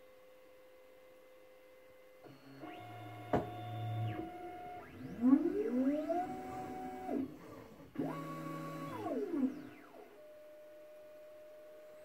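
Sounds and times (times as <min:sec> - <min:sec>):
printer motors whining: 0:02.2 - 0:12.0.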